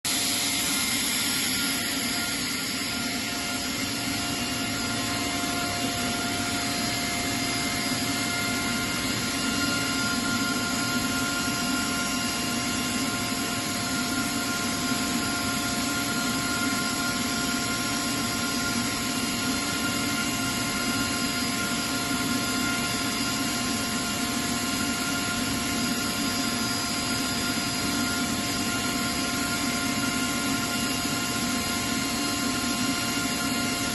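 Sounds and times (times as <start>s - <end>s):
air compressor running: 0.0s - 33.9s
steady machine tones: 0.1s - 33.9s.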